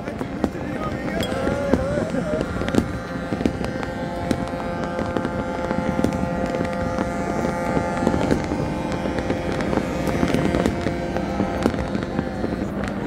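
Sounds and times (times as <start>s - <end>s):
fireworks bangs and crackles: 0.0s - 13.0s
outdoor background noise: 0.0s - 13.0s.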